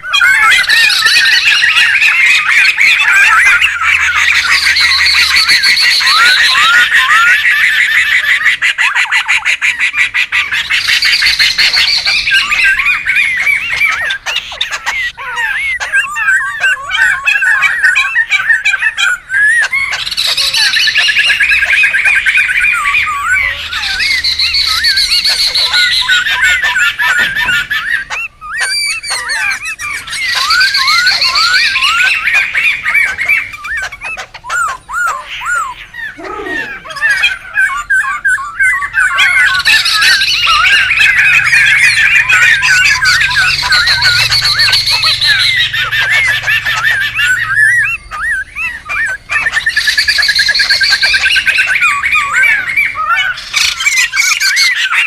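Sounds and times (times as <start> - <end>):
birds chattering and squawking: 0.0 - 55.0.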